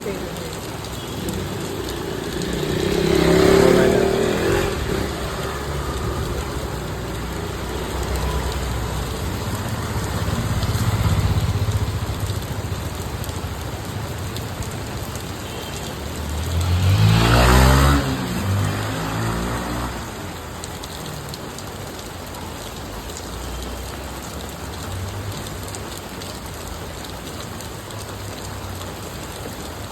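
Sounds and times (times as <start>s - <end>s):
rain falling on street: 0.0s - 29.9s
vehicles passing on wet road: 0.0s - 29.9s.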